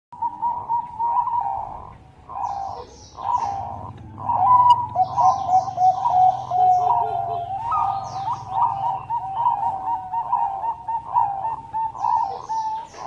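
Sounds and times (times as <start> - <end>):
dove cooing: 0.2 - 13.0.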